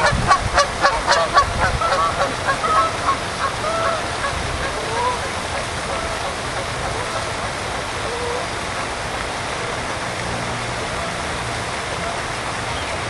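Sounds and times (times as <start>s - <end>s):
outdoor background rush: 0.0s - 13.0s.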